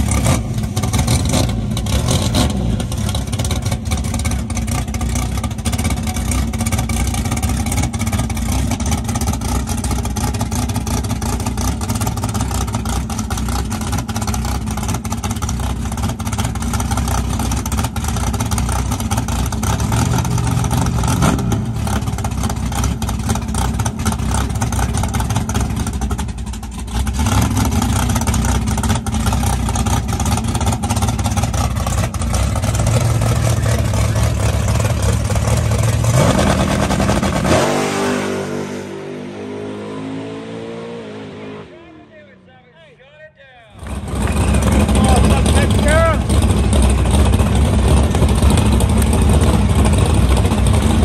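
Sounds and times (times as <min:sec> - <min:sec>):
drag car engine revving: 0:00.0 - 0:42.8, 0:43.7 - 0:51.0.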